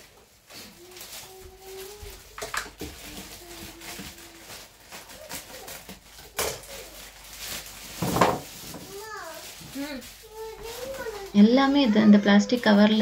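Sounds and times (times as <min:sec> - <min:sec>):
groceries rustling: 0:00.0 - 0:13.0.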